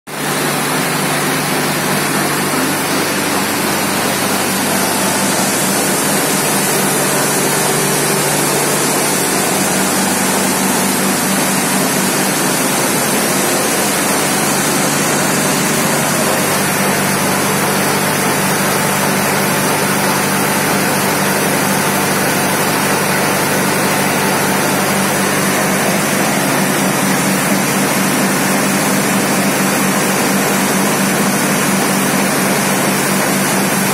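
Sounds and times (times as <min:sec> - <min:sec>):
tractor engine running: 0:00.1 - 0:33.1
tiller blades spinning: 0:00.2 - 0:30.5.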